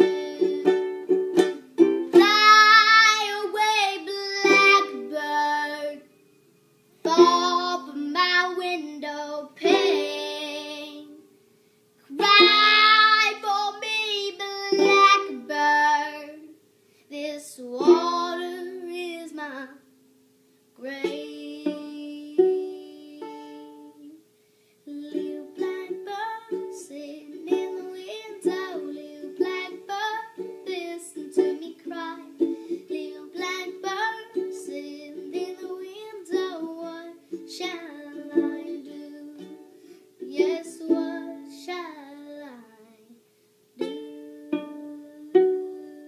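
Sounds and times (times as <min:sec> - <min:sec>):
ukulele playing: 0:00.0 - 0:06.0, 0:07.0 - 0:09.0, 0:09.6 - 0:11.2, 0:12.2 - 0:16.4, 0:17.8 - 0:19.0, 0:21.0 - 0:24.0, 0:25.0 - 0:41.9, 0:43.8 - 0:46.0.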